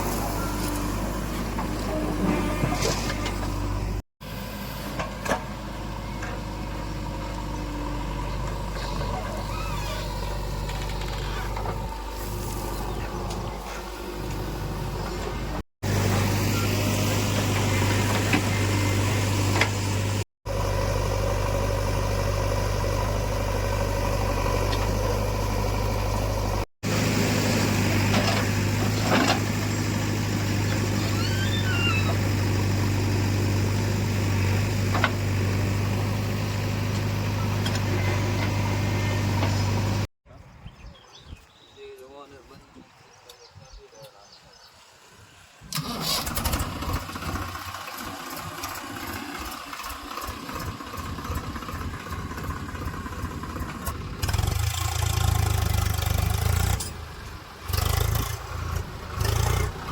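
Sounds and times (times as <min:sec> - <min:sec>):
diesel engines running: 0:00.0 - 0:40.1, 0:45.6 - 0:59.9.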